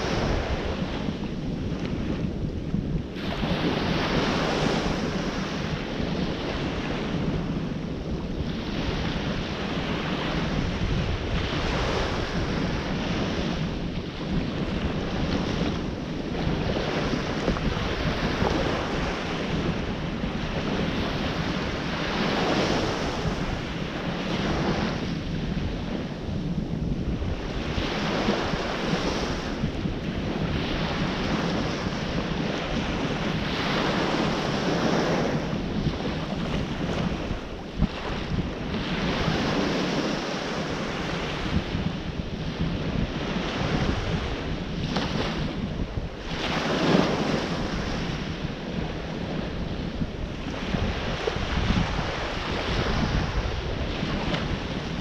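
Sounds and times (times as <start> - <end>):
ocean surf washing: 0.0 - 55.0
wind buffeting microphone: 0.0 - 55.0.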